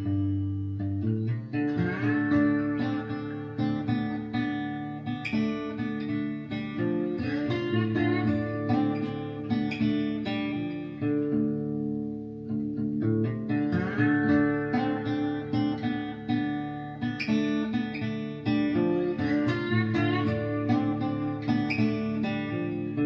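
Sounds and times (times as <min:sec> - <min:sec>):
blues country music: 0:00.0 - 0:23.0
plucked acoustic guitar: 0:00.0 - 0:23.0.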